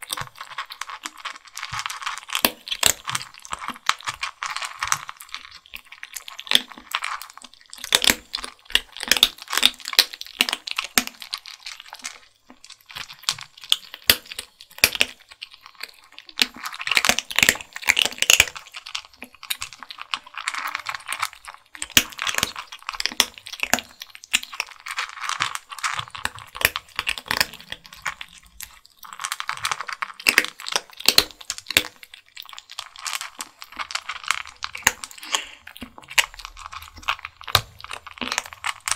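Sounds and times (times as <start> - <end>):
kittens crunching dry kibble: 0.0 - 38.9.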